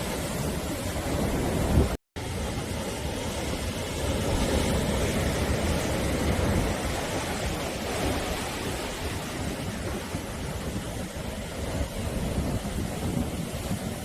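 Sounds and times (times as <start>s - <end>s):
sea surf breaking on shore: 0.0s - 14.0s.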